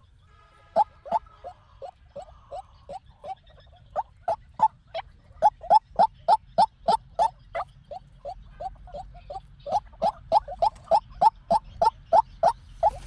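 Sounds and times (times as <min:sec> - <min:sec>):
waterhen calling: 0:00.7 - 0:13.0.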